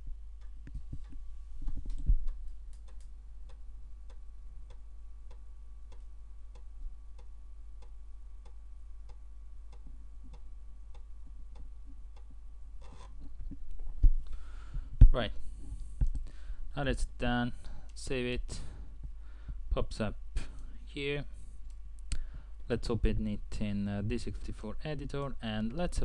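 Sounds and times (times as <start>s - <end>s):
faint floppy drive hum: 0.0s - 26.0s.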